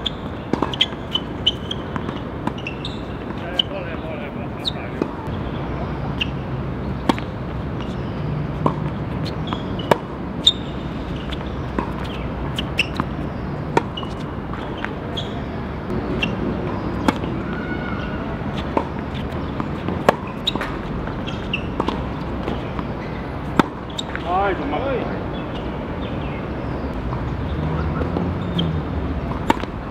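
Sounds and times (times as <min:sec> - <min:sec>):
steady background noise: 0:00.0 - 0:29.9
tennis balls hit and bouncing: 0:00.0 - 0:29.9.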